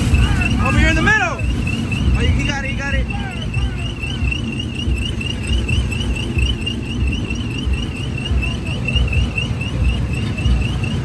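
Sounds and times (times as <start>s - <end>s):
high warbling alarm tone: 0.0s - 11.0s
truck engine rumbling: 0.0s - 11.0s.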